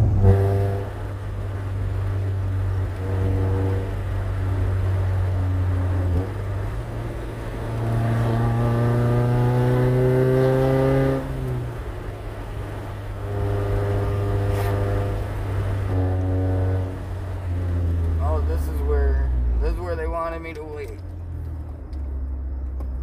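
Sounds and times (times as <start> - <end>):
car engine accelerating: 0.0 - 23.0
road noise: 0.0 - 23.0.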